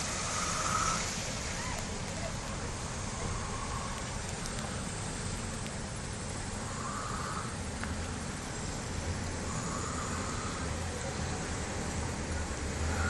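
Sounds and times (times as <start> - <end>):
continuous low rumble: 0.0 - 13.0
even hiss: 0.0 - 13.0.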